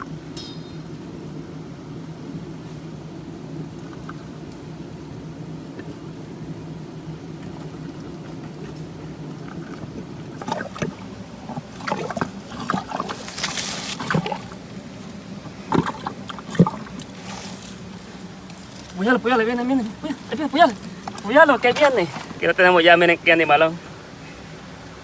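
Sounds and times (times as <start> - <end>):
steady low hum: 0.0 - 25.0
water splashing and sloshing: 2.4 - 25.0.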